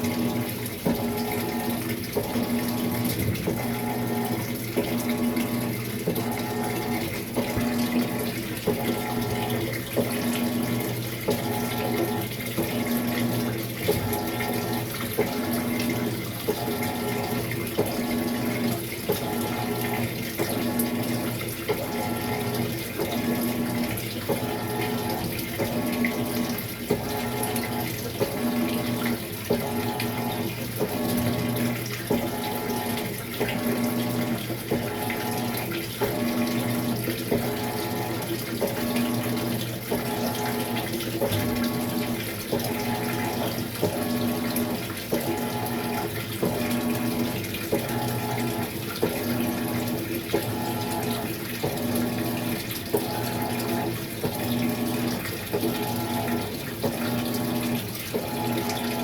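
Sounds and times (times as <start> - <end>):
washing machine motor hum: 0.0 - 59.0
water swishing in washing machine: 0.0 - 59.0.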